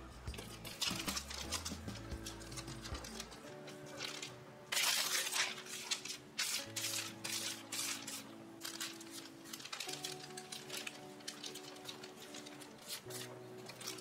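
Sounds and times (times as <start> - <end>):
soft background music: 0.0 - 14.0
paper rustling and crinkling: 0.3 - 14.0.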